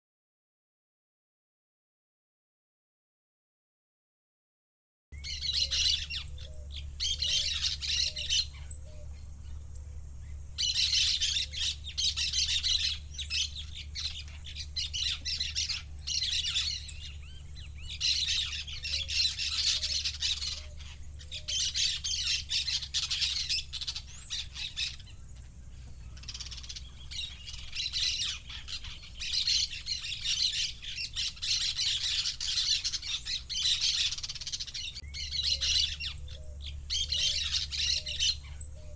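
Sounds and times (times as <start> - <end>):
birds squawking and chattering: 5.2 - 38.9
steady low rumble: 5.2 - 38.9.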